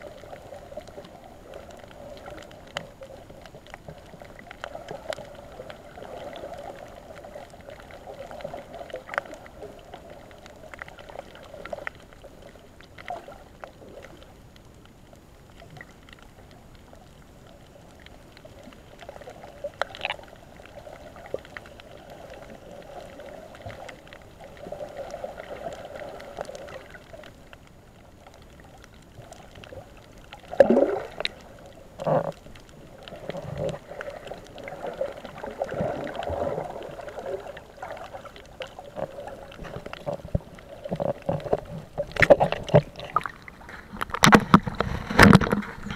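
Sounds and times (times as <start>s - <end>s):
muffled underwater rush: 0.0s - 45.9s
underwater clicks and crackles: 0.0s - 45.9s.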